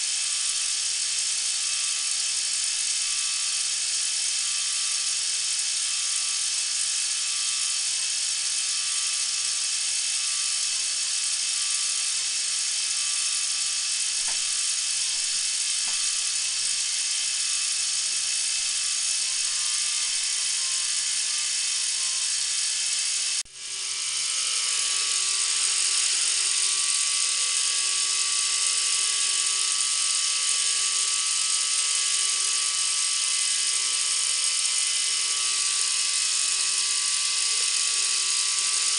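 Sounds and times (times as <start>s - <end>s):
toy electric motor whirring: 0.0s - 38.9s.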